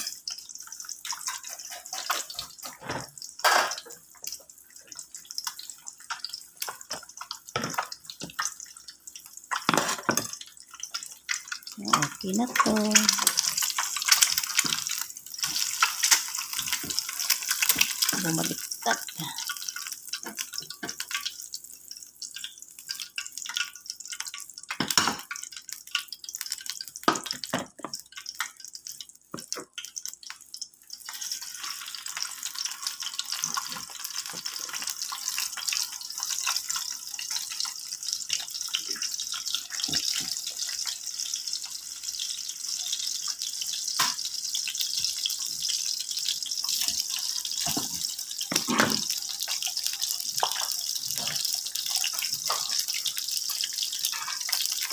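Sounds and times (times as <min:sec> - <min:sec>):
meat sizzling in oil: 0:00.0 - 0:54.9.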